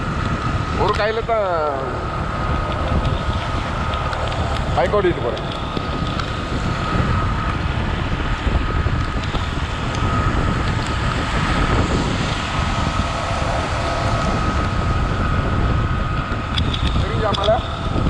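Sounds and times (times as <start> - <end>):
thin steady whine: 0.0 - 18.0
wind buffeting microphone: 0.0 - 18.0.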